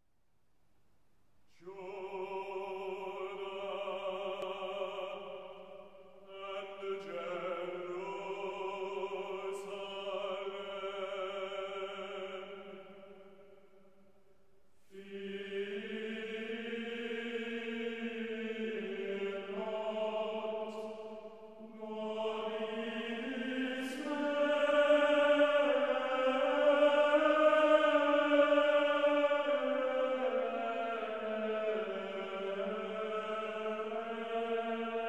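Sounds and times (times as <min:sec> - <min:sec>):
choir singing held chords: 0:01.6 - 0:13.9, 0:14.9 - 0:35.0.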